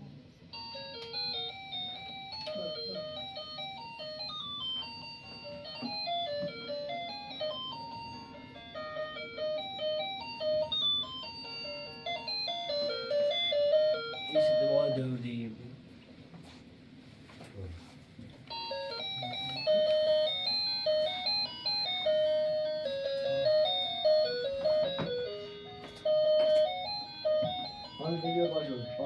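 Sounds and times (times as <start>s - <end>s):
toy electronic chiming melody: 0.5s - 15.2s, 18.5s - 29.0s.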